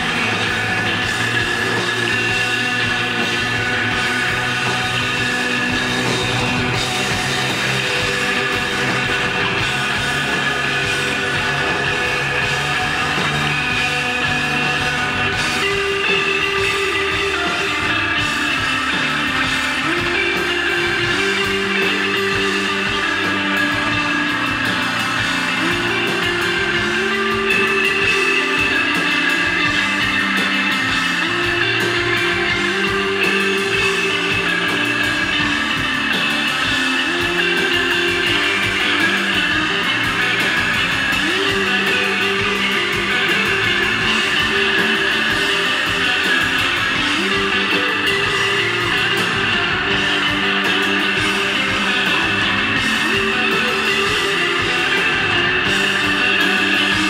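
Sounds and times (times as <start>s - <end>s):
bass guitar: 0.0s - 57.0s
drum kit with cymbals: 0.0s - 57.0s
electric guitar long notes: 0.0s - 57.0s.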